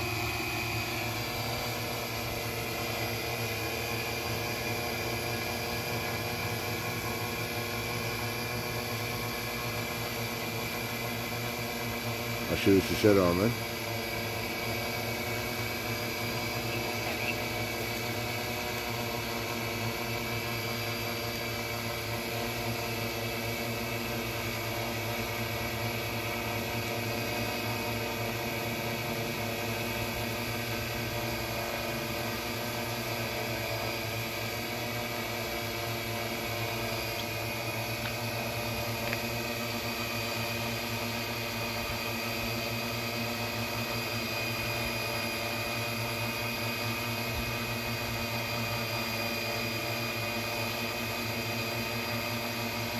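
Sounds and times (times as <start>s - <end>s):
drone buzzing hum: 0.0s - 51.0s.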